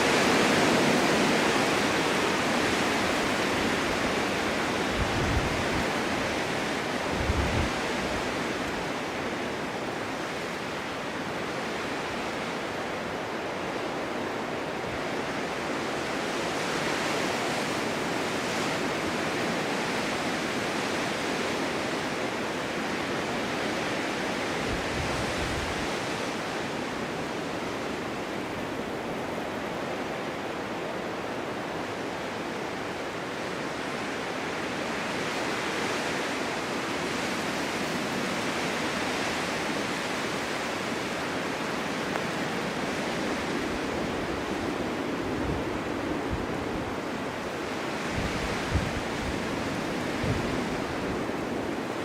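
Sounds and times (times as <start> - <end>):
snowstorm wind blowing: 0.0 - 52.0.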